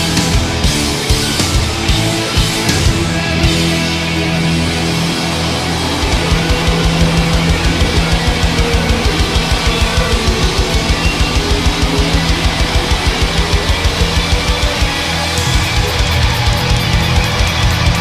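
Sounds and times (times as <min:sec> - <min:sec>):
fast drum beat: 0:00.0 - 0:03.8, 0:06.0 - 0:18.0
heavy metal guitar: 0:00.0 - 0:18.0.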